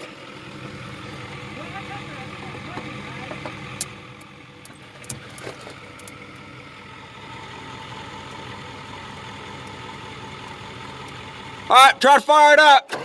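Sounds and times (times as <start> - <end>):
vehicle engine idling: 0.0 - 12.8.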